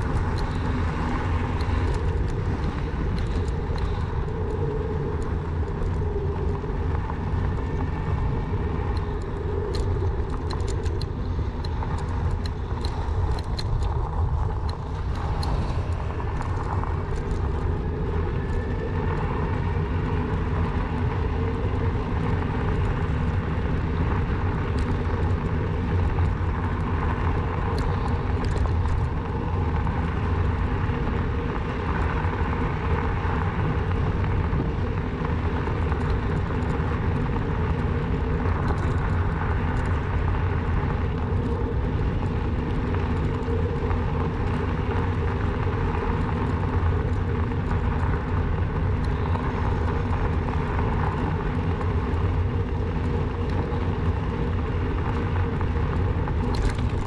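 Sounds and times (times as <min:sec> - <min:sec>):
bicycle tyre rumble: 0:00.0 - 0:57.0
wind on the microphone: 0:00.0 - 0:57.0.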